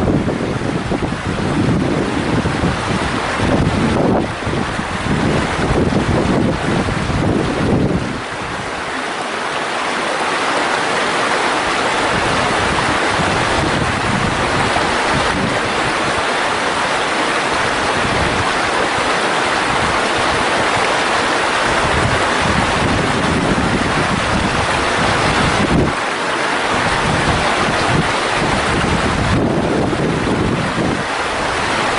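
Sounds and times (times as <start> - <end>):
wind buffeting microphone: 0.0 - 9.0, 10.1 - 31.9
water rushing over rocks: 0.0 - 31.9.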